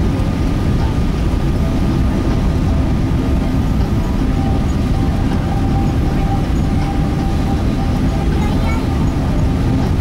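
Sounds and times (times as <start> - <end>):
faint steady whine: 0.0 - 10.0
jet engine and airflow rumble: 0.0 - 10.0.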